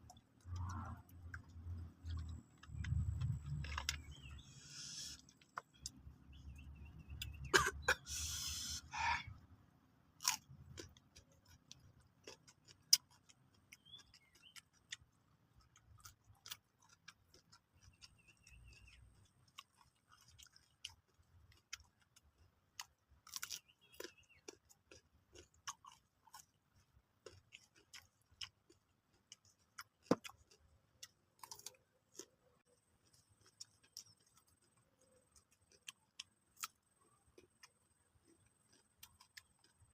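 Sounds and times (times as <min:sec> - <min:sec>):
person chewing crunchy food: 0:00.0 - 0:06.2, 0:10.2 - 0:39.9.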